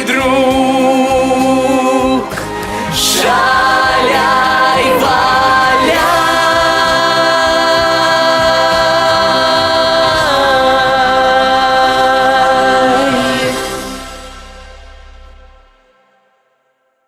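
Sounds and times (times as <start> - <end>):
voices singing: 0.0 - 14.3
backing music: 0.0 - 16.2.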